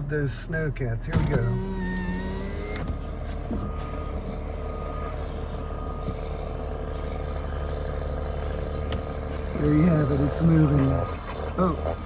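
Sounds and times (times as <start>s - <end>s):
diesel engine revving: 0.0s - 12.0s
reversing alarm beeps: 1.2s - 11.2s.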